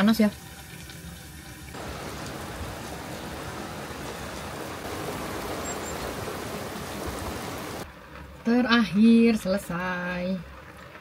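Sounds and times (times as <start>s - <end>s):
rain on a vehicle roof: 0.0s - 11.0s.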